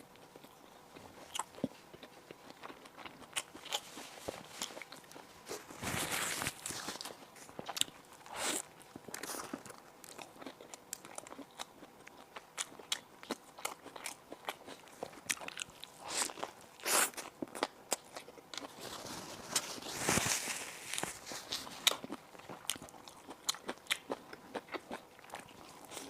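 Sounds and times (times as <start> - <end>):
chewing: 0.1 - 26.0.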